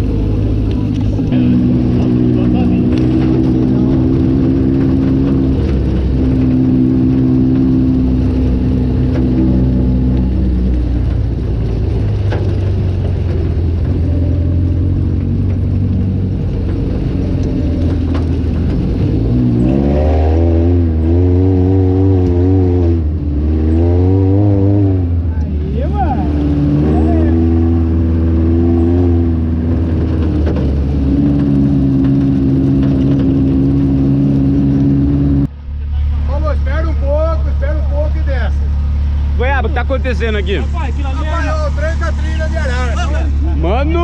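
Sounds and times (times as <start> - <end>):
off-road vehicle engine revving: 0.0 - 44.0.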